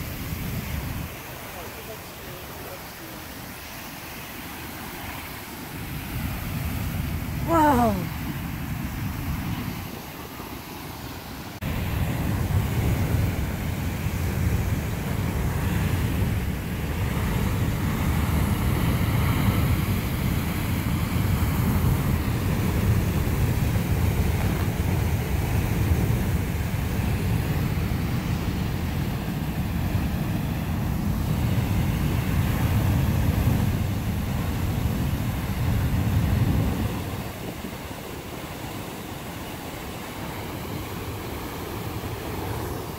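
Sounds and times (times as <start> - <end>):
geyser roaring water and steam: 0.0 - 42.9.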